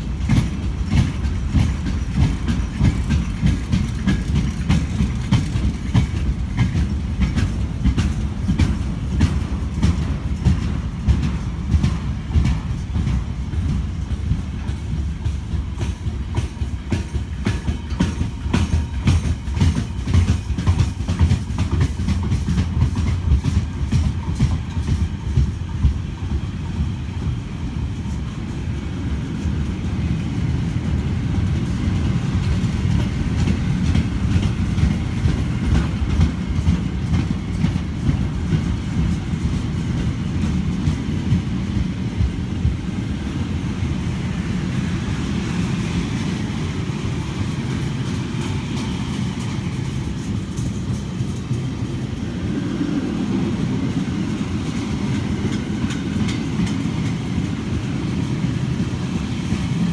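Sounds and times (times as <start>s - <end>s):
wheels clacking over rail joints: 0.0s - 43.9s, 44.6s - 59.9s
train wagons rumbling: 0.0s - 59.9s.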